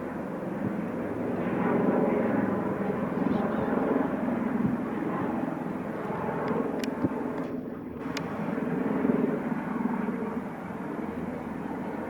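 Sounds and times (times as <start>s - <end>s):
helicopter rotor and turbines: 0.0s - 12.0s.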